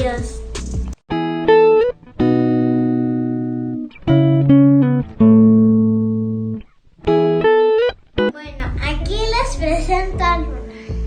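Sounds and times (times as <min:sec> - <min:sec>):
guitar chords: 0:00.0 - 0:11.0.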